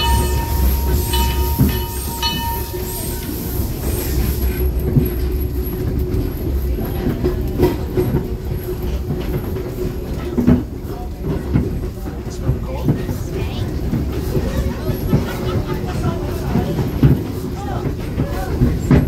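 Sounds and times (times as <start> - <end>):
steam train rumbling along track: 0.0 - 19.0
wheels clacking over rail joints: 0.0 - 19.0.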